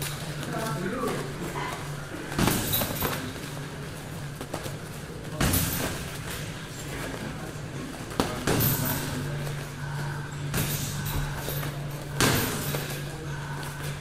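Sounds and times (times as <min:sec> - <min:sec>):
padded punches and kicks thudding: 0:00.0 - 0:14.0
steady low hum: 0:00.0 - 0:14.0.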